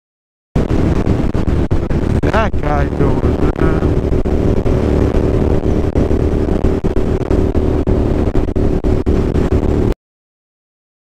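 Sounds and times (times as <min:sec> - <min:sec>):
motorcycle engine cruising: 0:00.6 - 0:10.0
wind and road noise: 0:00.6 - 0:10.0.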